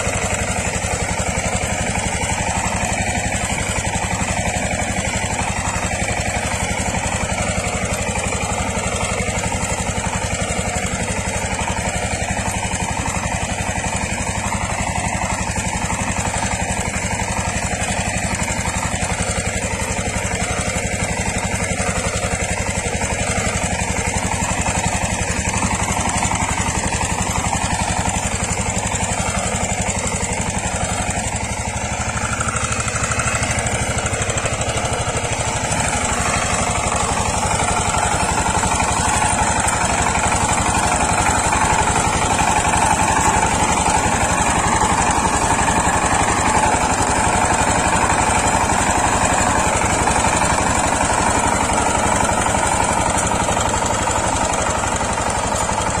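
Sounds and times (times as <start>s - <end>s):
diesel tiller engine running: 0.0s - 56.0s.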